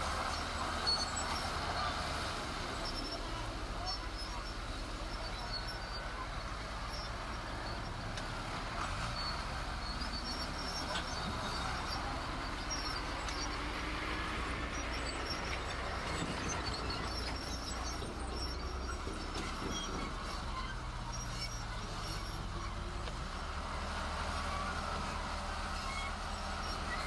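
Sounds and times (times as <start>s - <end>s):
heavy machinery engine drone: 0.0s - 27.0s
high mechanical squeaks: 0.3s - 23.0s, 24.3s - 27.0s.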